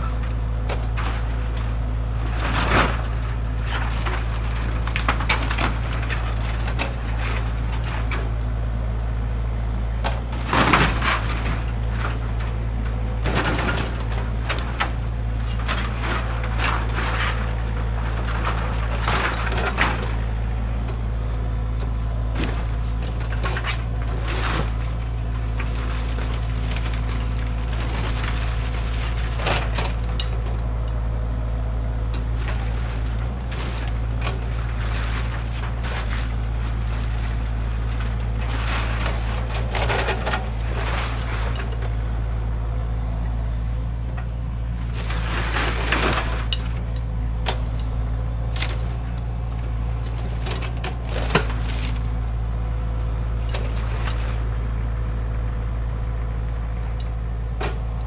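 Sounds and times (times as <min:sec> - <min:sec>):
wood cracking and splintering: 0:00.0 - 0:08.6, 0:10.0 - 0:21.0, 0:22.2 - 0:31.0, 0:32.0 - 0:42.0, 0:44.8 - 0:52.5, 0:53.3 - 0:54.7.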